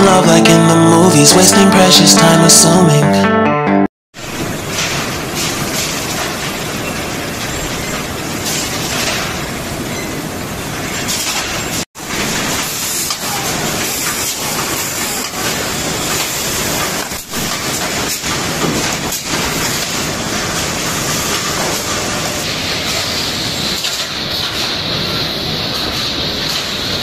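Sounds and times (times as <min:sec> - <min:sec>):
packing machinery clattering: 0:04.3 - 0:27.0.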